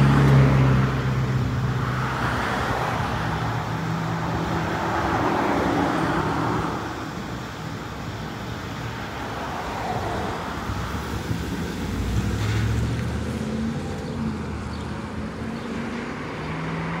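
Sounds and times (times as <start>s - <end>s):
bus engine pulling away: 0.0s - 17.0s.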